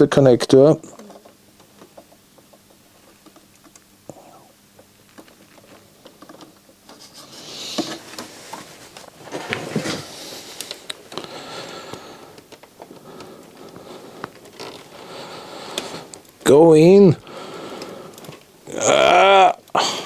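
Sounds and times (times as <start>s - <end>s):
hands scraping and rustling cable: 0.8s - 20.0s.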